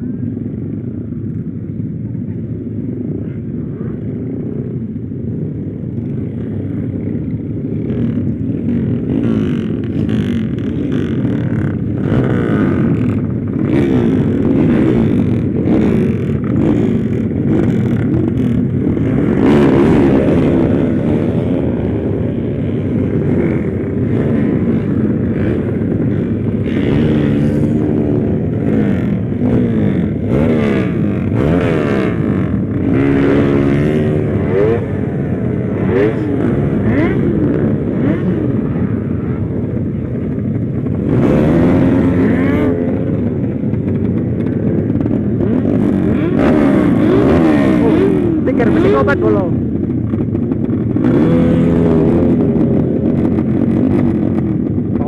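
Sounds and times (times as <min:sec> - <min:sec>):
motorcycle engine revving: 0:02.6 - 0:55.0.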